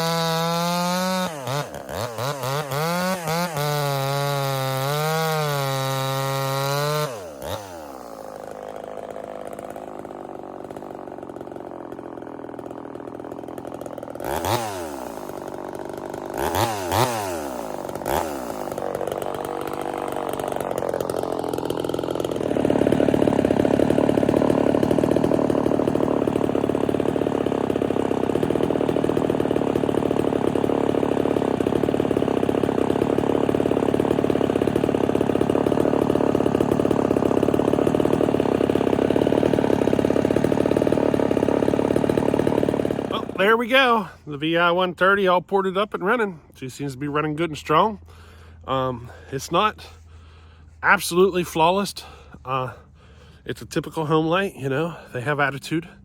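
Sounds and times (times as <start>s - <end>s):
chainsaw running and idling: 0.0s - 56.0s.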